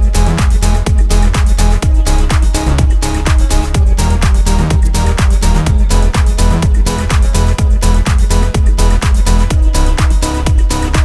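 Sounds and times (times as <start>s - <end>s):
kick drum: 0.0s - 11.0s
sustained synth notes: 0.0s - 11.0s.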